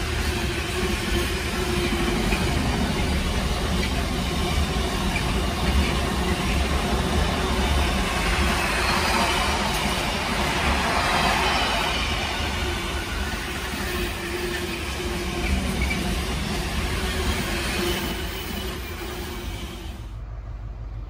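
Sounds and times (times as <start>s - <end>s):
train wheels running over rails: 0.0s - 20.2s.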